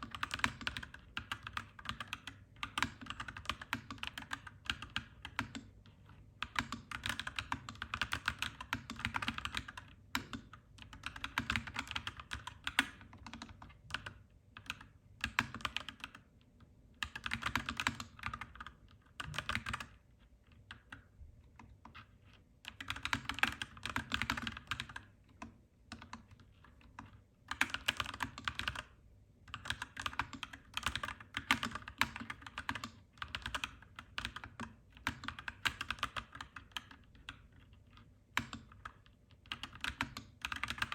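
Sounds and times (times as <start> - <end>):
typing on mechanical keyboard: 0.0 - 16.3, 17.0 - 40.9.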